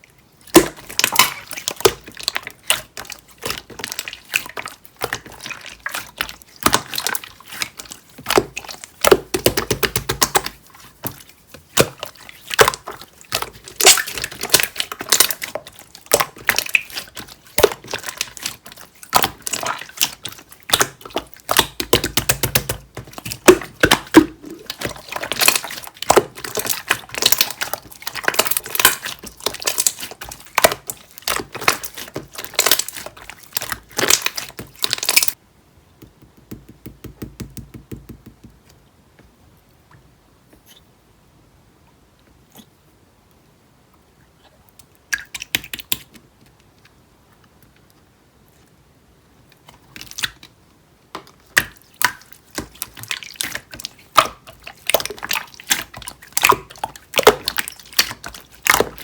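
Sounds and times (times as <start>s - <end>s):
slime squishing with wet clicks: 0.1s - 35.4s, 43.9s - 48.1s, 49.5s - 59.0s.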